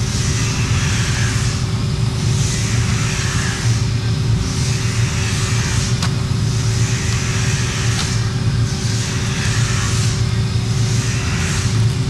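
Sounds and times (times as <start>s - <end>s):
low rumble with hum: 0.0s - 12.0s.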